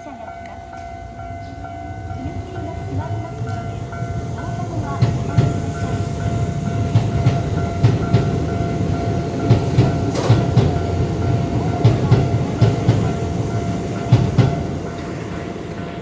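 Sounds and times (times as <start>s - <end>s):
continuous high tone: 0.0s - 16.0s
train wheels clickety-clack: 2.0s - 16.0s.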